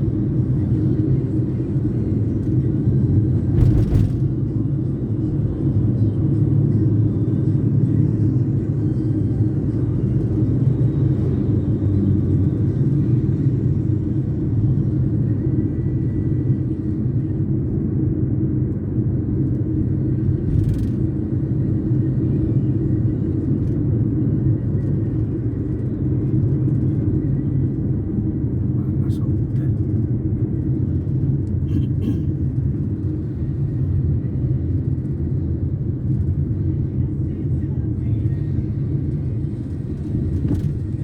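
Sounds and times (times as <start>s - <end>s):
car engine and road noise: 0.0s - 41.0s.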